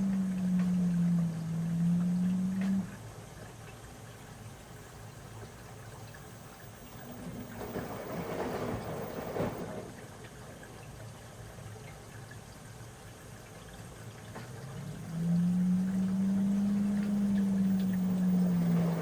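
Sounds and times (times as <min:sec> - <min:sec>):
washing machine rumbling: 0:00.0 - 0:10.9, 0:13.4 - 0:19.0
water sloshing in drum: 0:00.0 - 0:19.0.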